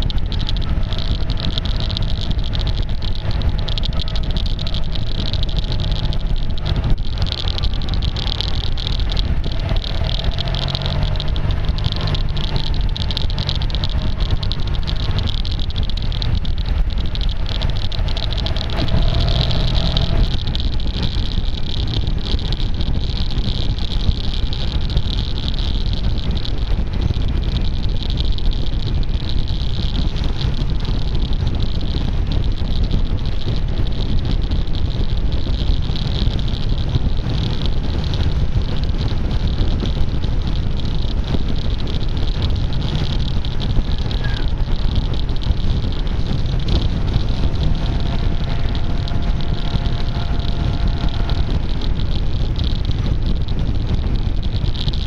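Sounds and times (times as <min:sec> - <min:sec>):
scooter engine: 0:00.0 - 0:55.0
tape clicking on microphone: 0:00.0 - 0:55.0
wind noise: 0:00.0 - 0:55.0.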